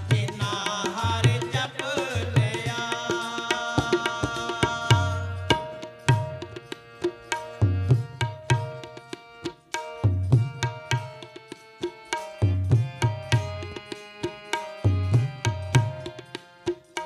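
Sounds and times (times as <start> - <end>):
sustained harmonium notes: 0.0 - 17.0
tabla playing a rhythm: 0.0 - 17.0.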